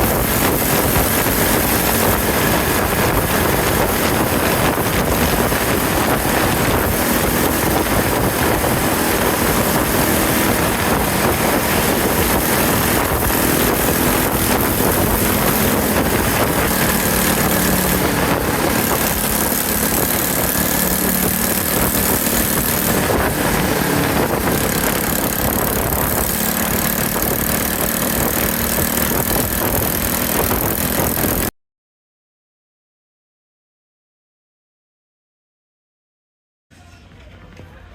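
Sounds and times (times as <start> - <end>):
motorcycle engine running: 0.0 - 31.5
wind rushing over microphone: 0.0 - 31.5.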